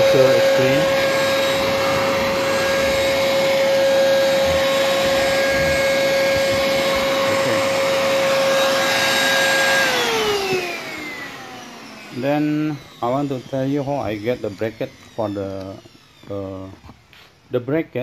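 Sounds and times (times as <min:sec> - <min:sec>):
vacuum cleaner motor whine: 0:00.0 - 0:18.0.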